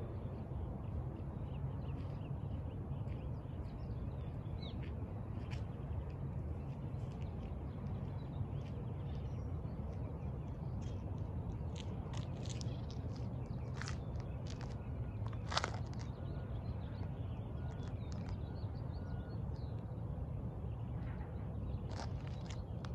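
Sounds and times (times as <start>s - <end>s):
low background rumble: 0.0s - 22.9s.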